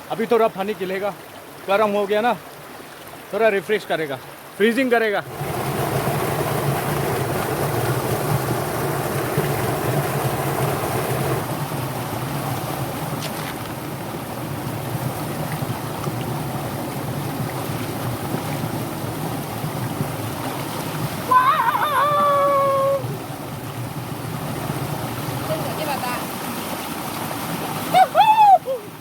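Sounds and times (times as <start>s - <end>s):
river rushing: 0.0s - 29.0s.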